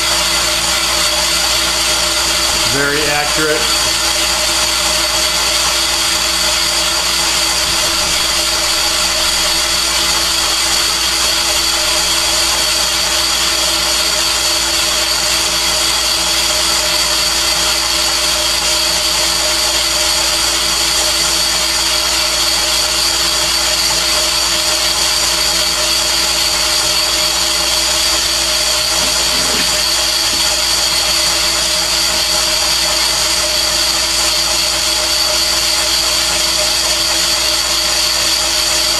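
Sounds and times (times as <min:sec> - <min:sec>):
boring machine whine: 0:00.0 - 0:38.9.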